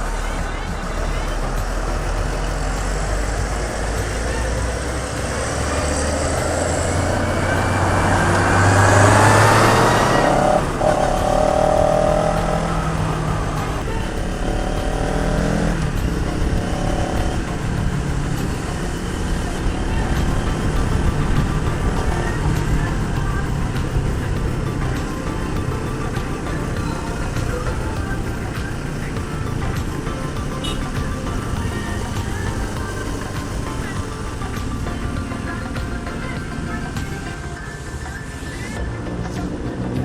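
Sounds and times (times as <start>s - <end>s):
motorcycle engine revving: 0.0s - 40.0s
road noise: 0.0s - 40.0s.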